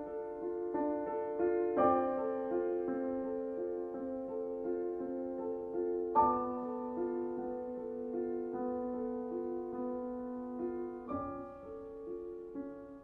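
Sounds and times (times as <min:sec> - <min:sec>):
gentle solo piano music: 0:00.0 - 0:13.0.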